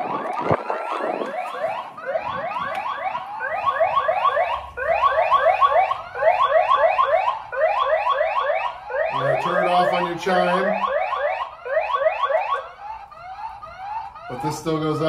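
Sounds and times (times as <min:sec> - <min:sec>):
electronic siren alarm: 0:00.0 - 0:15.0.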